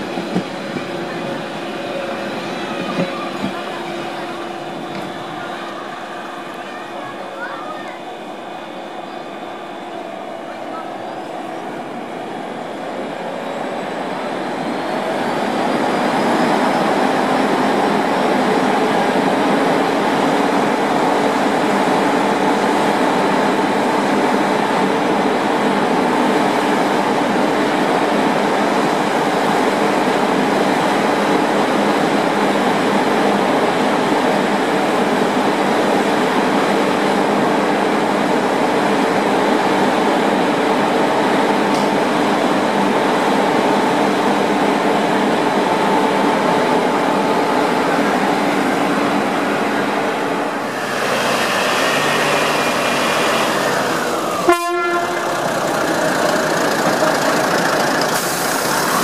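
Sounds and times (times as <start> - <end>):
electric train running: 0.0 - 59.0.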